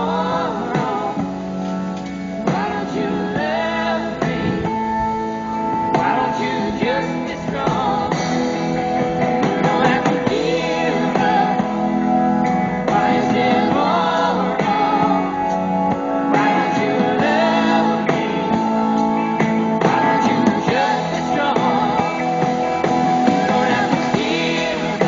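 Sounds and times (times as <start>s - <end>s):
person singing: 0.0s - 1.4s, 2.4s - 4.9s, 5.9s - 12.0s, 12.8s - 15.5s, 16.3s - 25.0s
held instrumental chords: 0.0s - 25.0s.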